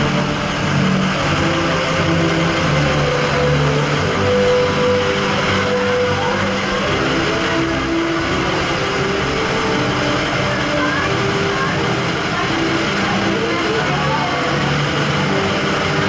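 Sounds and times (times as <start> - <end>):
pickup truck engines rumbling: 0.0 - 16.0.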